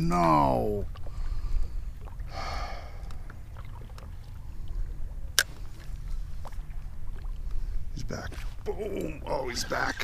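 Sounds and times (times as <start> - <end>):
water and wind rumble: 0.0 - 10.0.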